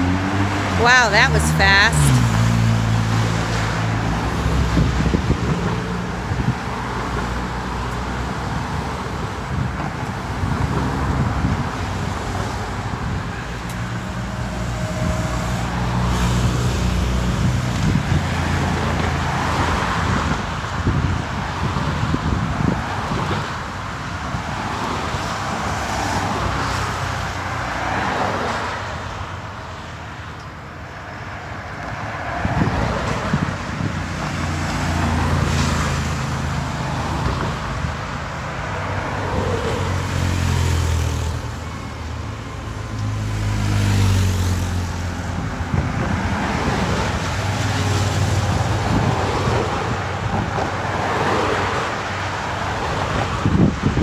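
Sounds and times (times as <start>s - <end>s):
cars passing by: 0.0s - 54.0s.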